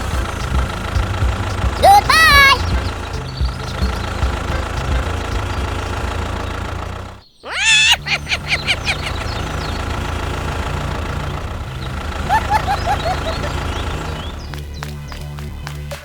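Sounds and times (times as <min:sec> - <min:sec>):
small engine throbbing: 0:00.0 - 0:16.0.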